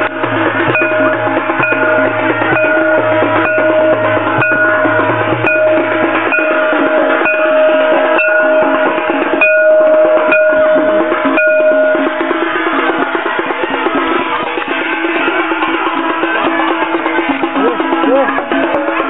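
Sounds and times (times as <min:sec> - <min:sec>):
fast drumming: 0:00.0 - 0:19.0
ringing metal percussion: 0:00.0 - 0:19.0.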